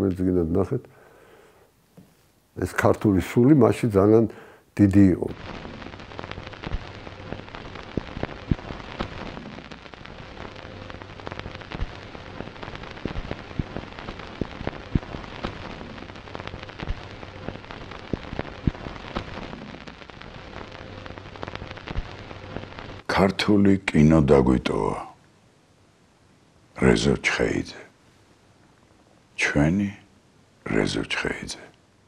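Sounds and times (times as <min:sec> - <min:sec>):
film surface hiss and crackle: 0:00.0 - 0:32.0.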